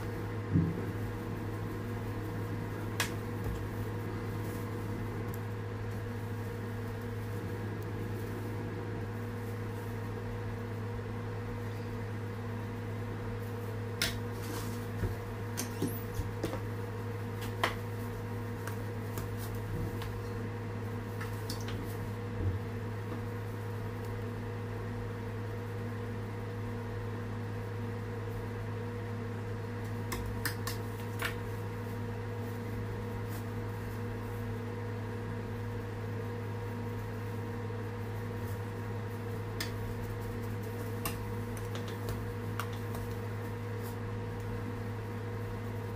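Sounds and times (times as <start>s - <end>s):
appliance mechanical hum: 0.0s - 45.9s.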